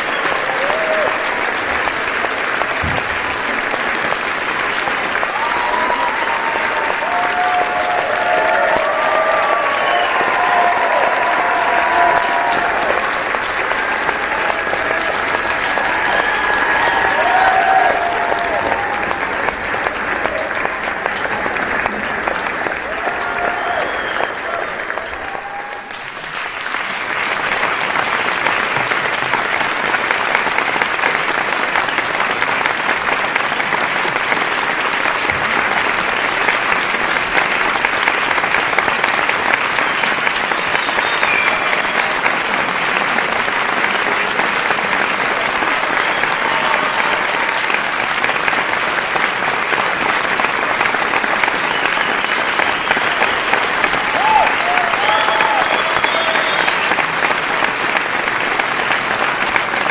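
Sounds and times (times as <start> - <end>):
crowd applauding: 0.0 - 59.9.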